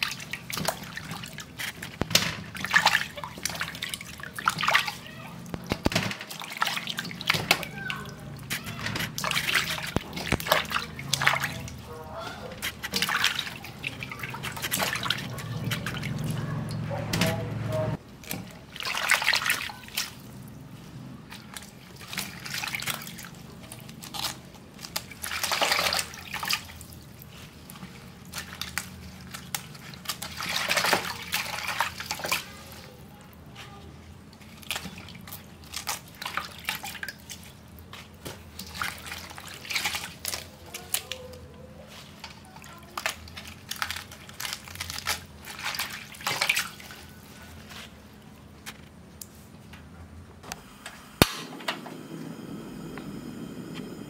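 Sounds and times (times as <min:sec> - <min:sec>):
water splashing and dripping: 0:00.0 - 0:47.9.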